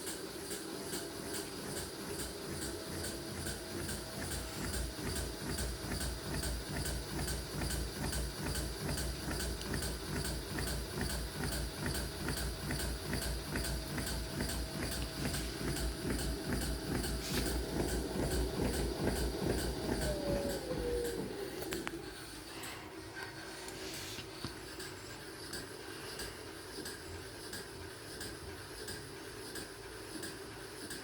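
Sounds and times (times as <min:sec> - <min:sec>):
rhythmic knocking noise: 0:00.0 - 0:22.8, 0:24.4 - 0:31.0
washing machine running: 0:00.0 - 0:31.0.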